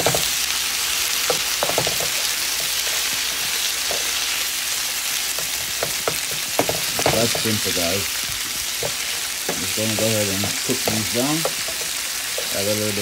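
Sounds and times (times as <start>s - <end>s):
spatula stirring in pan: 0.0s - 13.0s
vegetables sizzling in frying pan: 0.0s - 13.0s.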